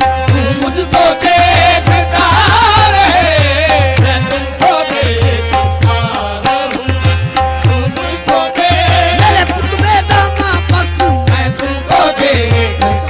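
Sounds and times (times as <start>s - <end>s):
tabla playing a steady beat: 0.0s - 13.0s.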